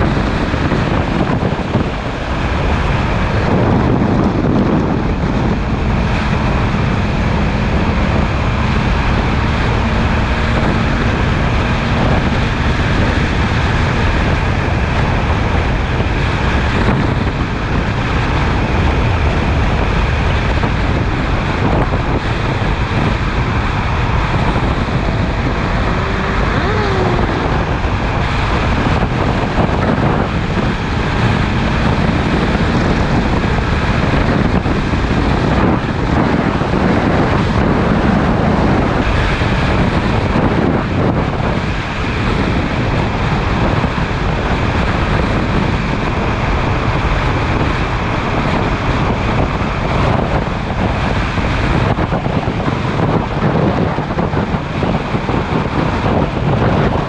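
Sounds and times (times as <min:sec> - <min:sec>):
motorcycle running: 0:00.0 - 0:57.0
wind rushing over microphone: 0:00.0 - 0:57.0.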